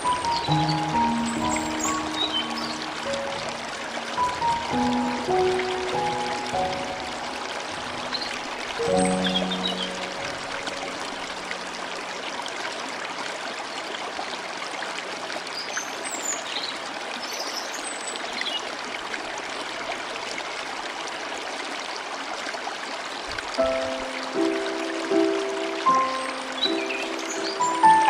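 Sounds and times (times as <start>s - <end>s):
stream rushing and trickling: 0.0s - 28.0s.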